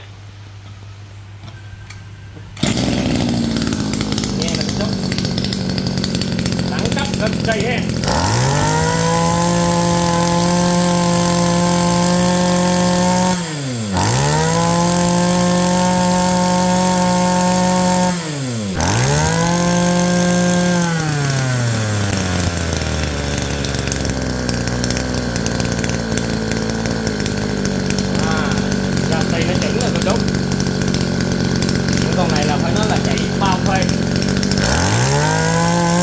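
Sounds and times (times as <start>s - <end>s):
brush cutter engine running: 2.4s - 36.0s.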